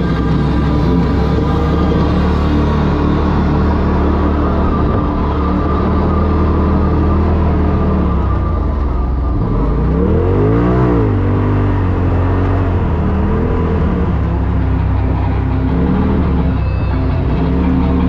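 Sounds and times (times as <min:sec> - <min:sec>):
engine revving under load: 0:00.0 - 0:18.0.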